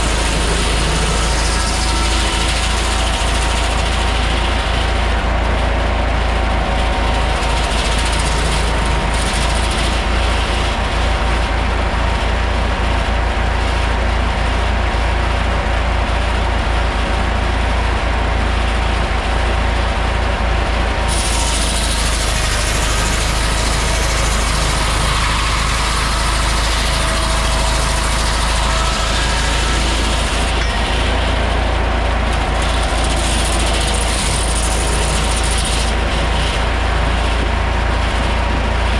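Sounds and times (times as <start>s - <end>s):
sawmill machinery drone: 0.0s - 38.9s
tractor engine running: 0.0s - 38.9s.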